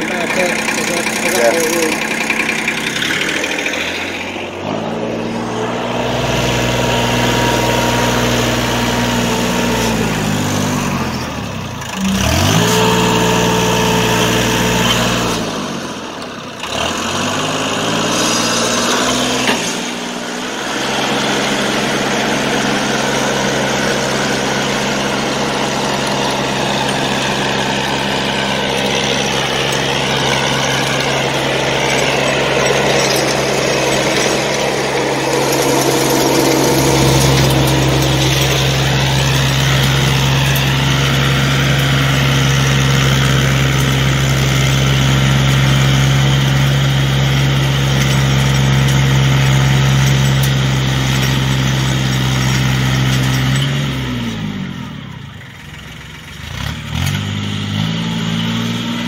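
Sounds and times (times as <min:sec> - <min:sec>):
rotary tiller working dirt: 0:00.0 - 0:59.0
tractor engine running: 0:00.0 - 0:59.0.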